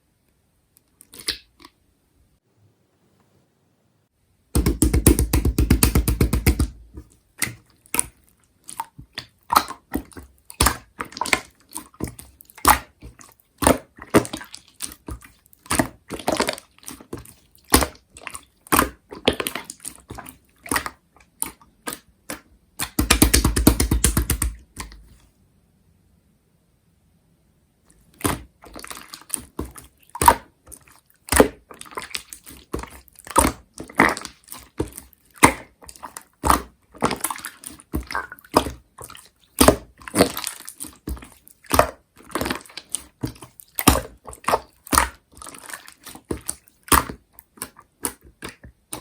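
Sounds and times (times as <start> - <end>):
slime squishing and popping: 4.6 - 25.1, 28.2 - 49.0.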